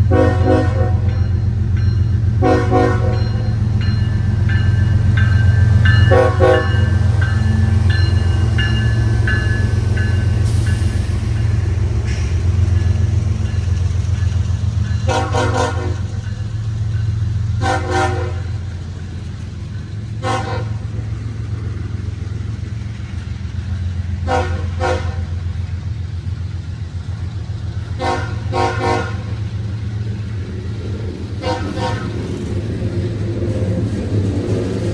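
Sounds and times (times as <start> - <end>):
train rumbling past: 0.0 - 34.9.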